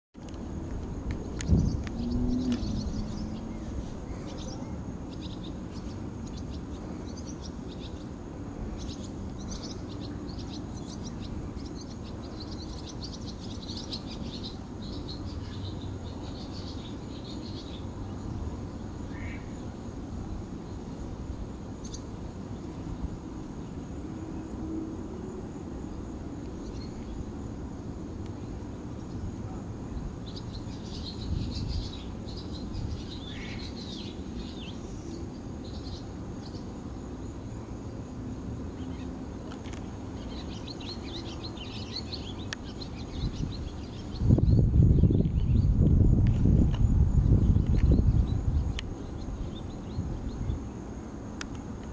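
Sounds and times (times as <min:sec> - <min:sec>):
small birds chirping: 0:00.2 - 0:24.6, 0:25.3 - 0:51.9.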